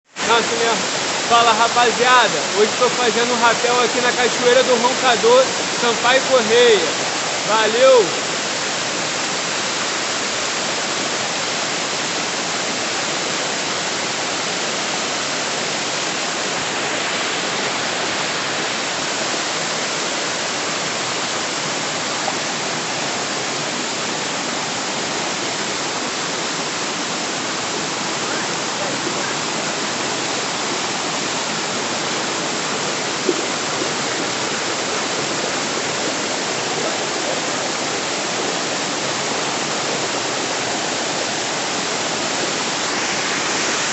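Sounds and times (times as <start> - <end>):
waterfall roaring: 0.1 - 43.9.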